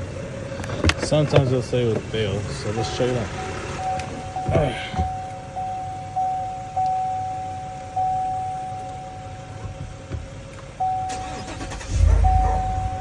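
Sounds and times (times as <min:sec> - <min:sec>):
car electronic warning chime: 0:02.2 - 0:13.0.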